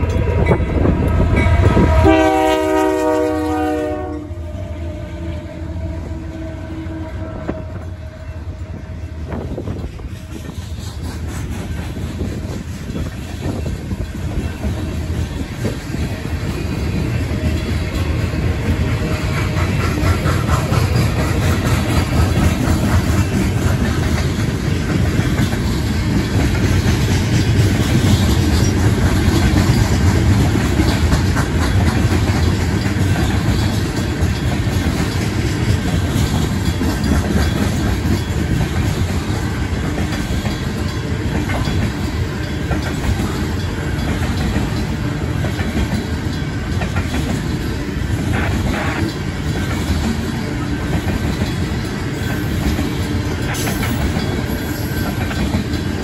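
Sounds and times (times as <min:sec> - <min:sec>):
train cars rumbling: 0:00.0 - 0:56.0
wheels clacking over rail joints: 0:09.4 - 0:56.0.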